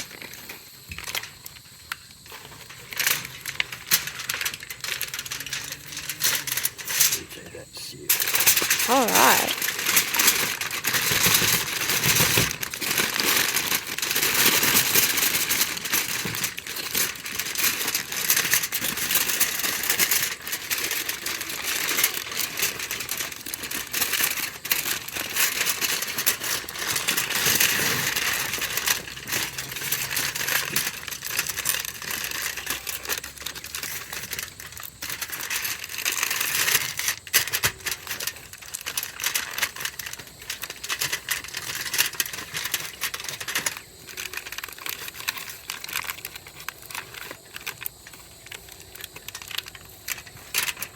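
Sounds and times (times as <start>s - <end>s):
aluminium foil crinkling: 0.0s - 50.9s.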